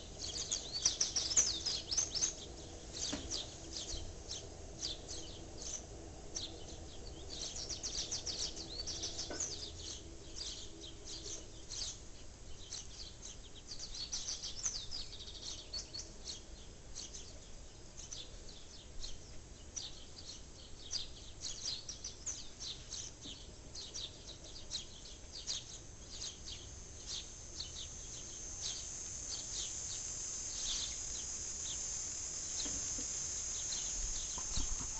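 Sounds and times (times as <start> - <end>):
small songbirds chirping: 0.0 - 34.9.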